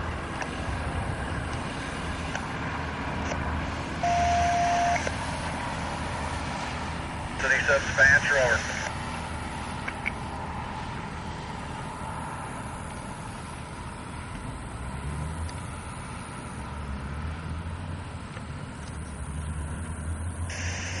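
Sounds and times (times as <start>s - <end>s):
rail car rumbling along track: 0.0s - 21.0s.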